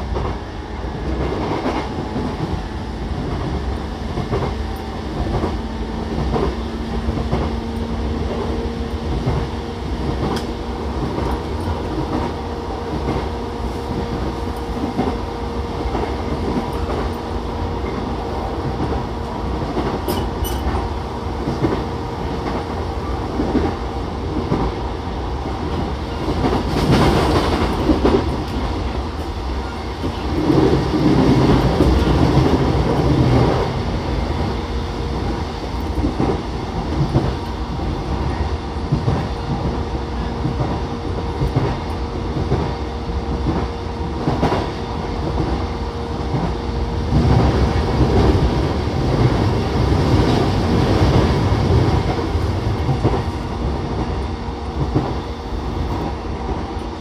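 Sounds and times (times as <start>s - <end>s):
train wheel rumble: 0.0s - 57.0s.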